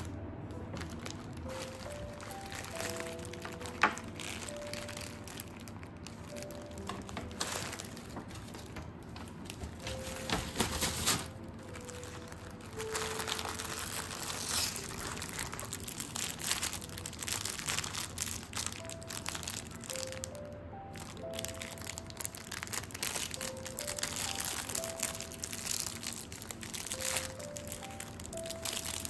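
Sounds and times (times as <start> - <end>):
plastic wrappers crinkling: 0.0 - 29.0.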